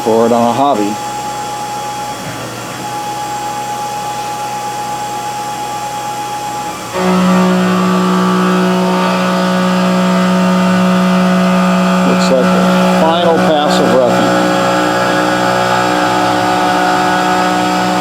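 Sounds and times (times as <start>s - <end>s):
milling machine whine: 0.0s - 18.0s.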